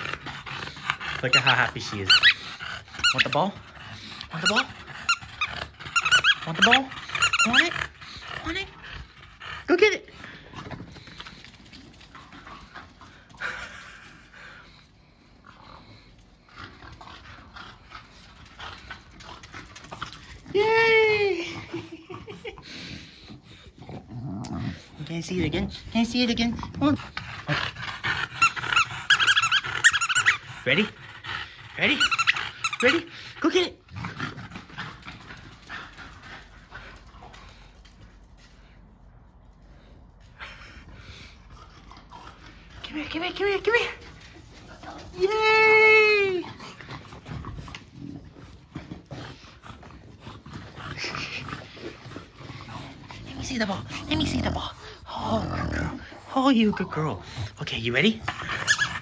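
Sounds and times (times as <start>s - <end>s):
dog breathing noises: 0.0s - 20.5s, 21.4s - 45.2s, 46.4s - 59.0s.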